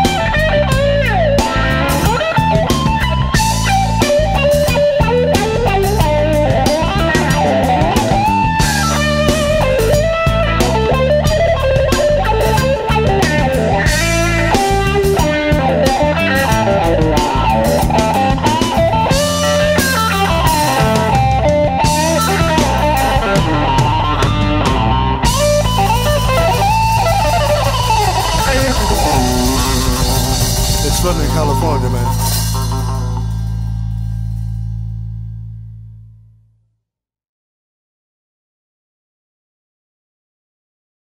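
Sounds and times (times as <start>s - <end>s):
electric guitar solo: 0.0s - 33.7s
drums: 0.0s - 35.6s
bass guitar: 0.0s - 36.6s.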